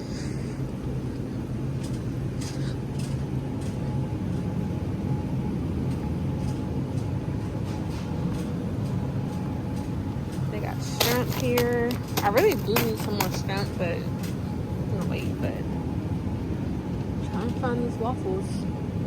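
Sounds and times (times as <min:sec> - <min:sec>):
faint constant tone: 0:00.0 - 0:19.0
refrigeration hum: 0:00.0 - 0:19.0.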